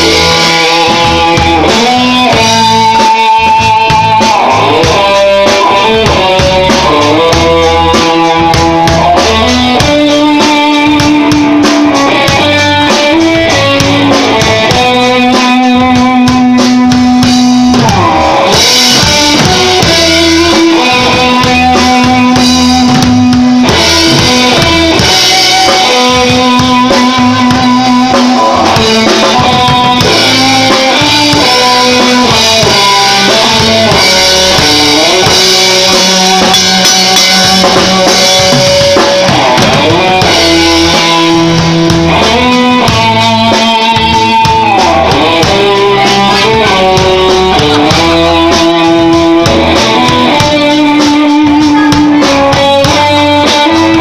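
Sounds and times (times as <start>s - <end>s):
drum kit steady beat: 0.0s - 54.0s
electric guitar lead melody: 0.0s - 54.0s.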